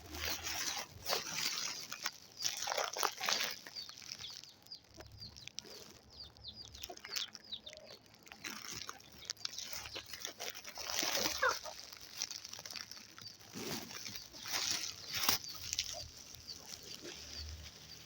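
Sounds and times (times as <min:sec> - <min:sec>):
chickens calling and clucking: 0:00.0 - 0:18.0
chickens pecking clicks: 0:00.5 - 0:18.0.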